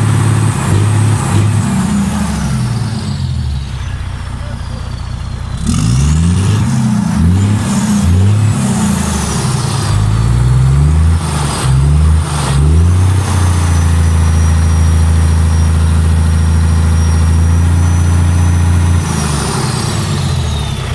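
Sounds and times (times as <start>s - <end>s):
diesel truck engine revving: 0.0s - 20.9s.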